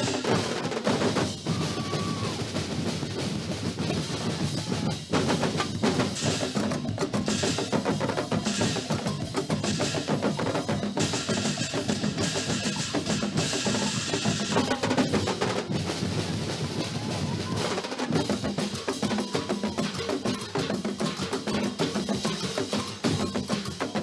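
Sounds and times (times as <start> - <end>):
drum ensemble playing fast beat: 0.0 - 24.0.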